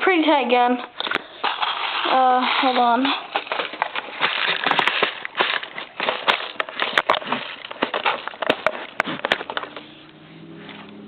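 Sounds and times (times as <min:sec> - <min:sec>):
plastic clicks and rattling: 0:00.8 - 0:09.9.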